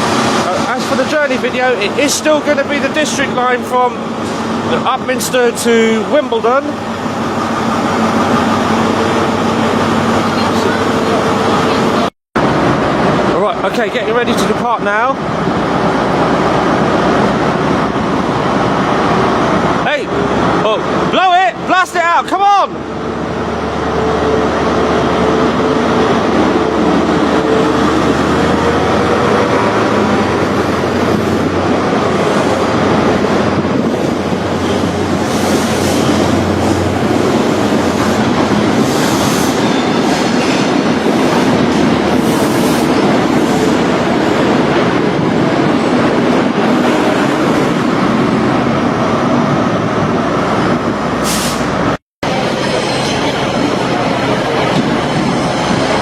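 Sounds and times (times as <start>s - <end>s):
diesel train engine drone: 0.0s - 56.0s
train wheel and rail noise: 0.0s - 56.0s.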